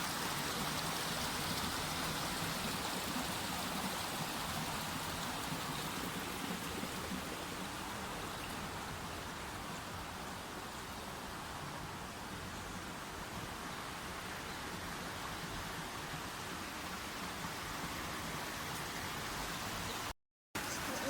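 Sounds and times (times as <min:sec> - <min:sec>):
stream running water: 0:00.0 - 0:21.0.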